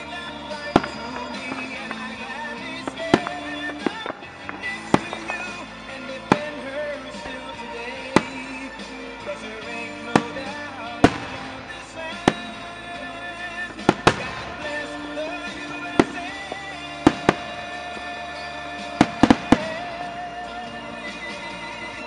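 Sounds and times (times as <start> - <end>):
fireworks bursting with bangs: 0.0 - 22.0
music from a radio: 0.0 - 22.0.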